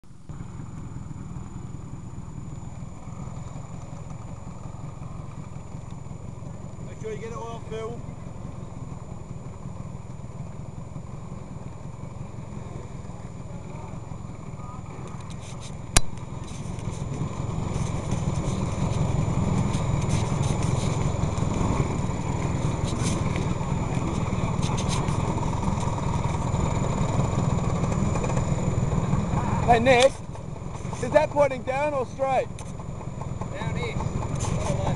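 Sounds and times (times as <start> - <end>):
scooter engine idling: 0.1 - 34.9.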